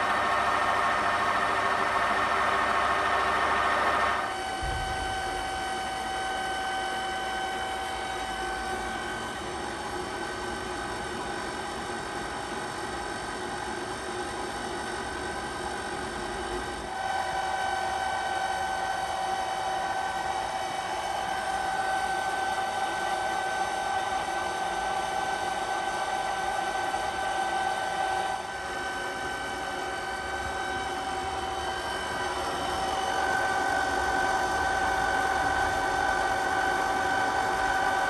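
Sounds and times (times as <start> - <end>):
milling machine gear whine: 0.0 - 38.0.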